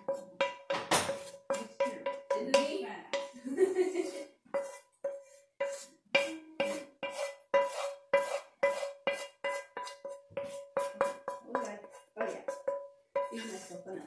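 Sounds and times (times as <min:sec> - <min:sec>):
spatula scraping pan: 0:00.0 - 0:14.0.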